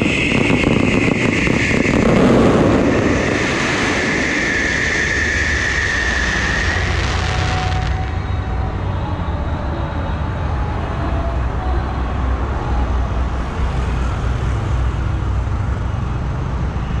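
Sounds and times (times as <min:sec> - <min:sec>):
low rumbling outdoor noise: 0:00.0 - 0:17.0.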